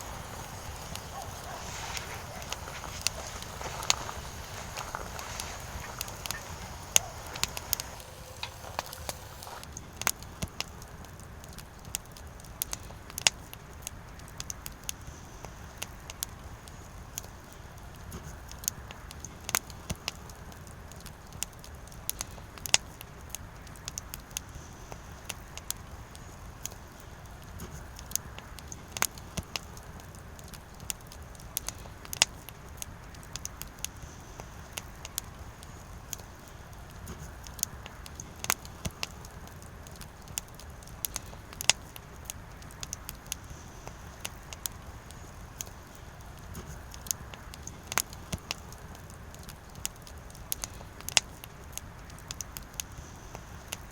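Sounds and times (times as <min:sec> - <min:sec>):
firewood crackling and popping: 0:00.0 - 0:53.9
low rumble of flames: 0:00.0 - 0:53.9.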